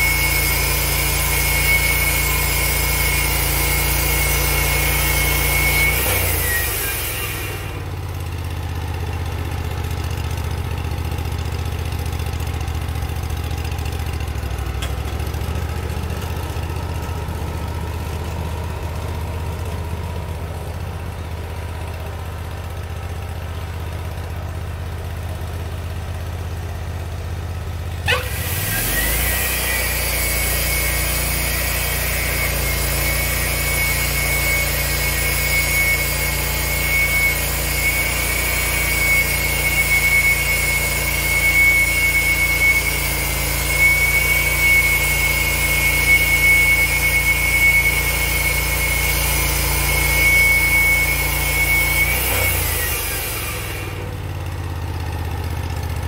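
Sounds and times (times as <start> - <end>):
band saw blade whine: 0.0 - 22.2, 27.9 - 56.0
sawmill engine: 0.0 - 56.0.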